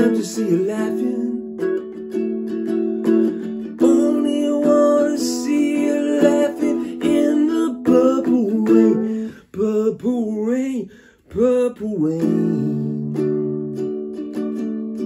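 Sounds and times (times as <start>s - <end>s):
man singing: 0.0s - 1.8s, 3.0s - 13.5s
ukulele strumming chords: 0.0s - 15.0s.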